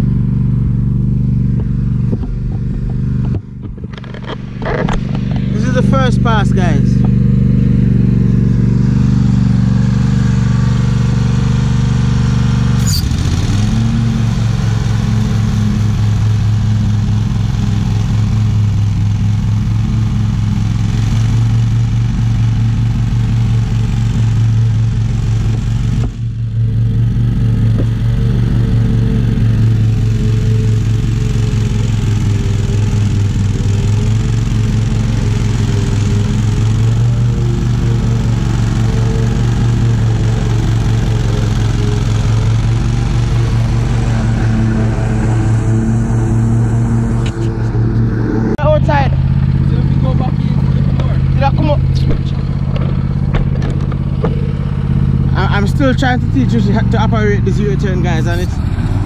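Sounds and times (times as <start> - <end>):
riding lawn mower engine cutting grass: 0.0 - 59.0.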